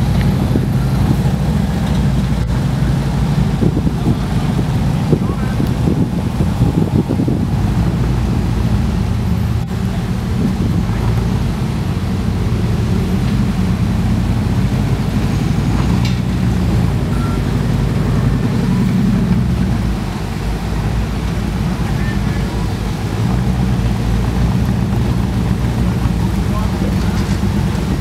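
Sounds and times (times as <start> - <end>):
buggy engine running: 0.0 - 28.0.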